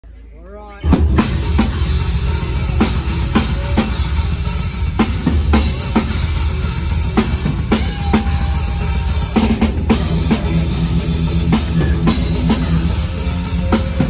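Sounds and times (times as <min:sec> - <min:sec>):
death metal band playing live: 0:00.8 - 0:14.0.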